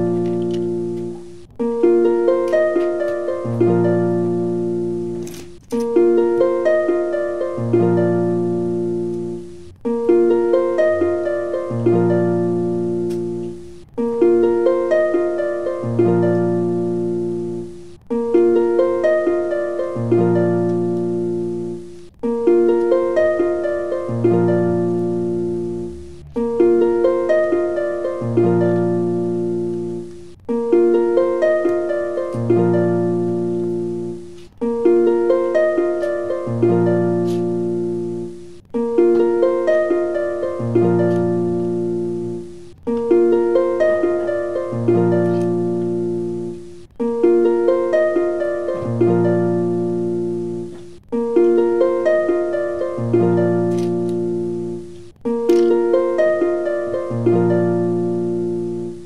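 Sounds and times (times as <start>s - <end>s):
looping plucked-string music: 0.0s - 59.0s.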